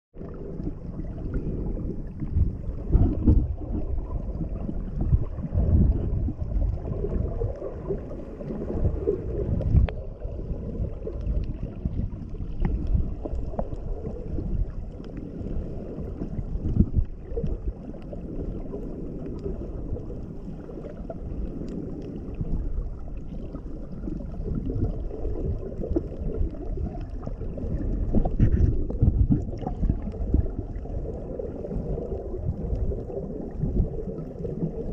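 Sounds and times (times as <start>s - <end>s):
muffled underwater rumble: 0.2s - 34.9s.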